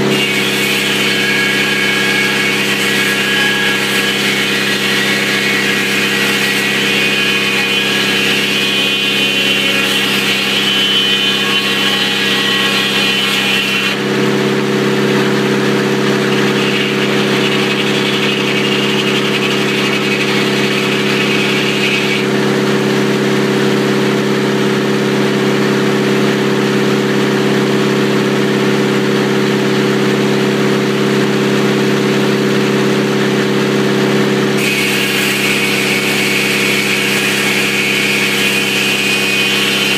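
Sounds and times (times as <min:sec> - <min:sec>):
saw cutting wood with whine: 0:00.0 - 0:39.9
sawmill engine running: 0:00.0 - 0:39.9.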